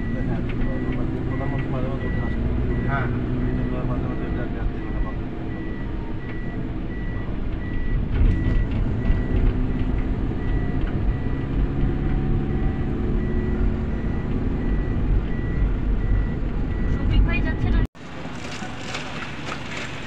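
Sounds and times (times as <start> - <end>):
high warning beeps: 0.0 - 17.9
van engine and tyres rumbling: 0.0 - 20.0.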